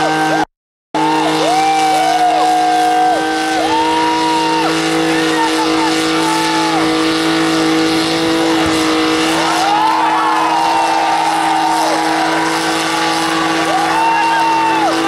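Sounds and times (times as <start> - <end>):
engines revving high: 0.0 - 15.0.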